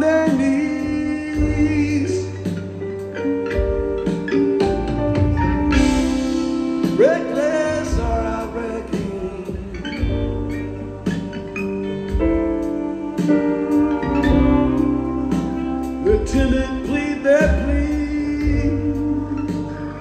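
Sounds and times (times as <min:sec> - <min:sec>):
person singing: 0:00.0 - 0:04.8, 0:05.6 - 0:20.0
live band playing a ballad: 0:00.0 - 0:20.0.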